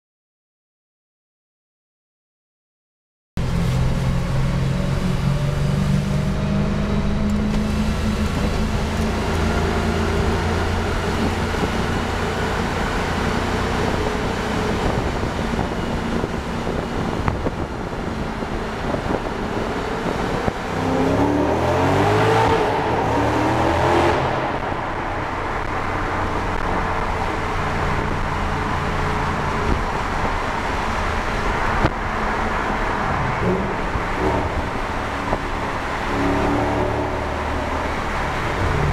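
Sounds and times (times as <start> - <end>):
car engine revving: 3.4 - 38.9.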